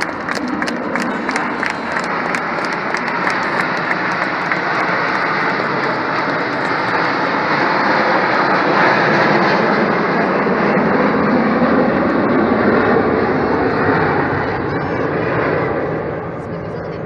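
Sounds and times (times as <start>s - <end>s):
jet engines flying overhead: 0.0s - 17.0s.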